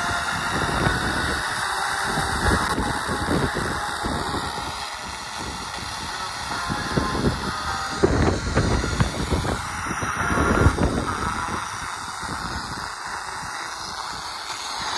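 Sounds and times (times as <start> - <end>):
radio static hiss: 0.0 - 14.9
wind buffeting microphone: 0.0 - 14.9.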